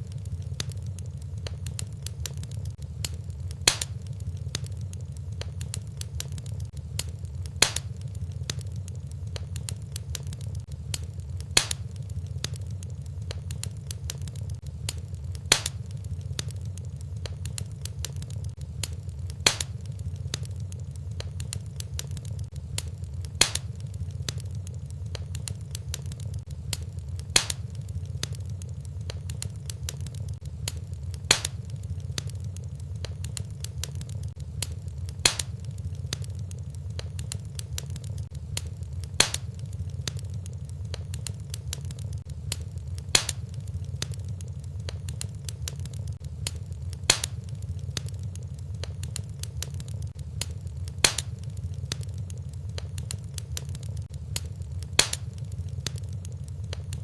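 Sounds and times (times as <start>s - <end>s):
fireplace fire crackling: 0.0s - 57.0s
low fire rumble: 0.0s - 57.0s
sharp fire pops: 0.0s - 57.0s.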